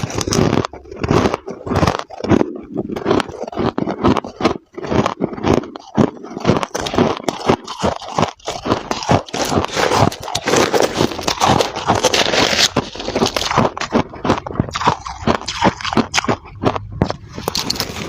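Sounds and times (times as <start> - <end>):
frost being crunched and scraped: 0.0 - 18.0.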